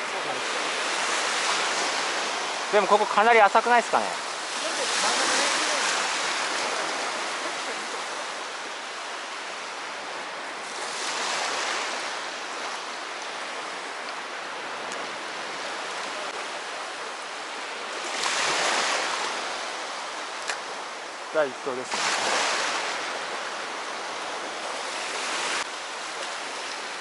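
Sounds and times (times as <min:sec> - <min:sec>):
sea surf washing onto shore: 0:00.0 - 0:27.0.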